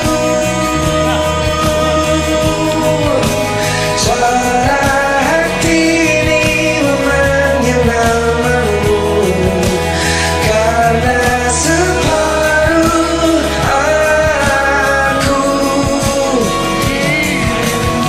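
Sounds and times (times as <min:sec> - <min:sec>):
person singing long held notes: 0:00.0 - 0:18.0
pop-rock backing track: 0:00.0 - 0:18.0.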